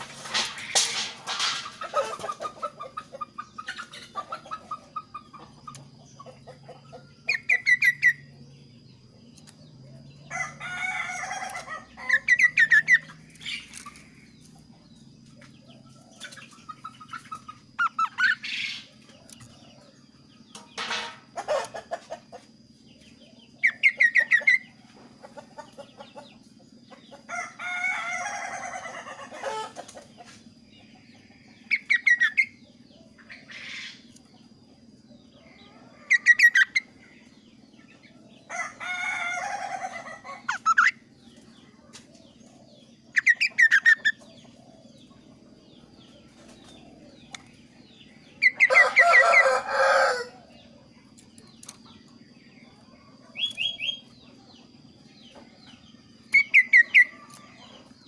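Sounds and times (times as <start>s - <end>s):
faint steady hum: 0.0s - 58.0s
songbird trilling and chattering: 1.8s - 20.8s, 22.8s - 27.2s, 30.7s - 34.5s, 35.1s - 38.5s, 39.4s - 49.9s, 50.5s - 58.0s.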